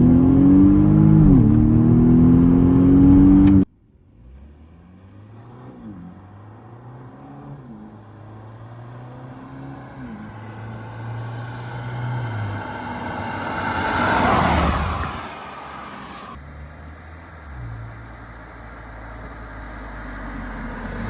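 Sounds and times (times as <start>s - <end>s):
car accelerating and passing: 0.0s - 21.0s.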